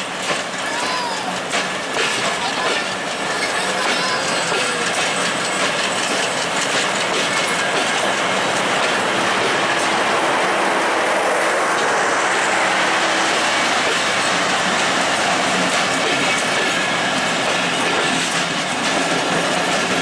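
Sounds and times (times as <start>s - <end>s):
clicking over rail joints: 0.0s - 10.4s, 13.5s - 20.0s
train wheels rumbling on rails: 0.0s - 20.0s.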